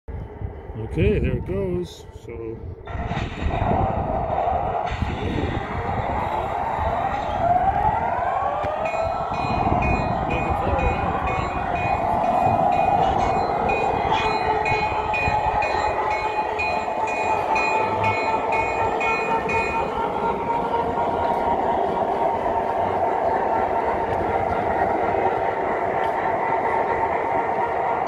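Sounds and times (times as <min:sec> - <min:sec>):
regular track clicking: 0:02.9 - 0:28.0.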